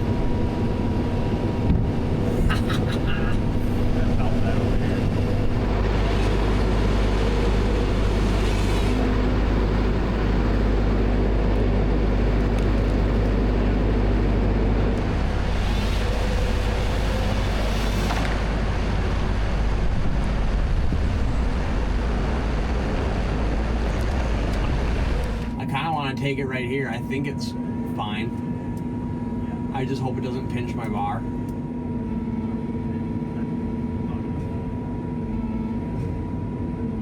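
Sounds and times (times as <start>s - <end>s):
diesel machinery engine drone: 0.0s - 37.0s.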